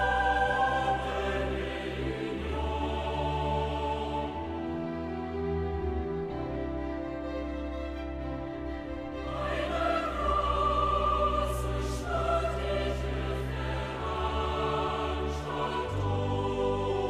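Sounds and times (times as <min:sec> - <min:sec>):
slow music of long held notes: 0:00.0 - 0:17.0.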